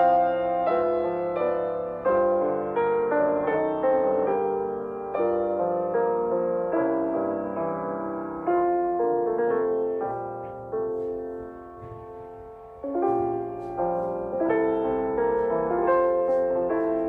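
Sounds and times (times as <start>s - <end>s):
slow solo piano piece: 0.0s - 17.0s.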